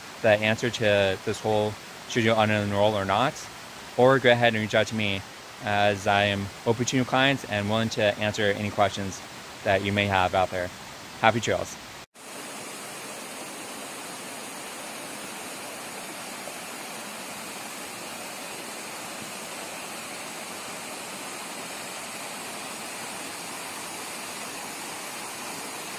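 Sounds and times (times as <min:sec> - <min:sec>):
waterfall rushing over boulders: 0:00.0 - 0:25.9.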